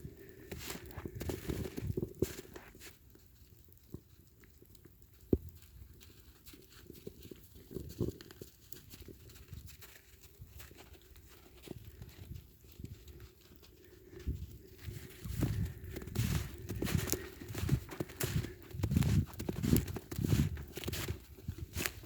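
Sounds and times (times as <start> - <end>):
footsteps crunching in snow: 0.3 - 3.0, 5.6 - 22.0.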